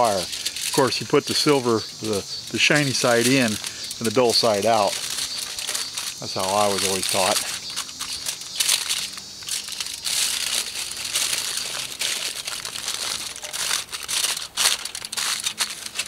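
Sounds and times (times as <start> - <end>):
aluminum foil crinkling: 0.0 - 16.0.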